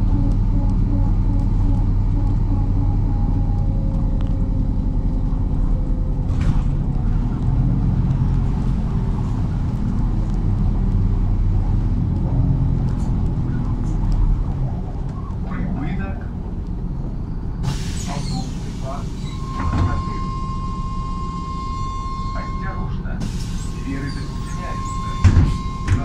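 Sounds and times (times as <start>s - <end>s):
diesel engine rumble: 0.0s - 26.0s
road noise: 0.0s - 26.0s.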